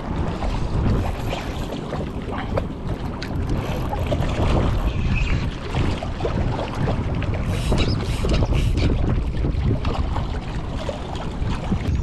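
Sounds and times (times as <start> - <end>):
water noise: 0.0 - 12.0
wind buffeting microphone: 0.0 - 12.0.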